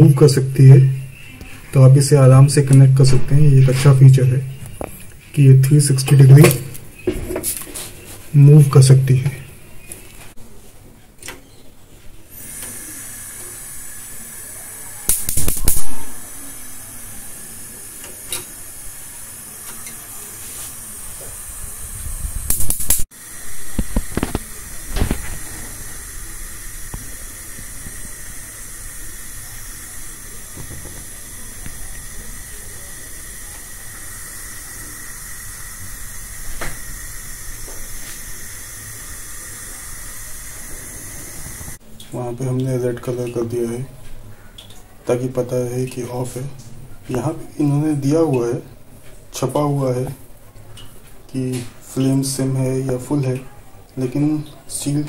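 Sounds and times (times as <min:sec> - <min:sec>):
gas burner hissing: 0:00.0 - 0:10.4, 0:12.2 - 0:55.0.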